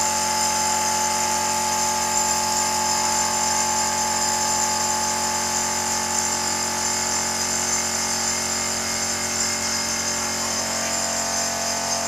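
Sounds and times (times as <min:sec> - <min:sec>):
air compressor motor hum: 0:00.0 - 0:12.0.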